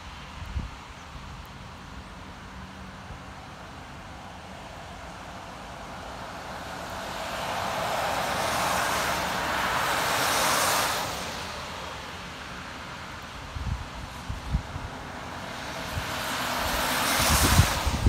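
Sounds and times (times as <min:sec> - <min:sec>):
tyres hissing on wet road: 0:00.0 - 0:18.0.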